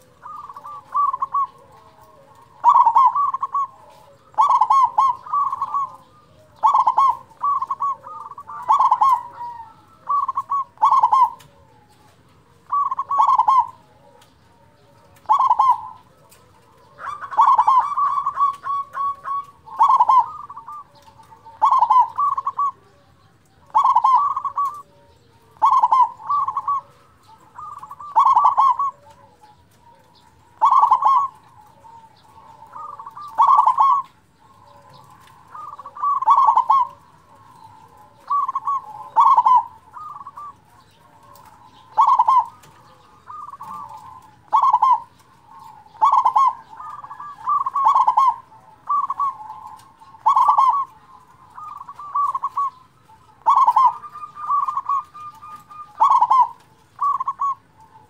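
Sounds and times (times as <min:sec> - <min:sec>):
dove cooing song: 0:00.0 - 0:58.0.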